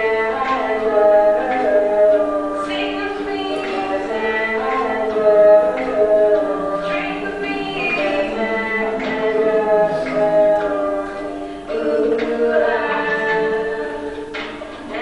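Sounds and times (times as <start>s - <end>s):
voices singing in harmony: 0.0s - 15.0s.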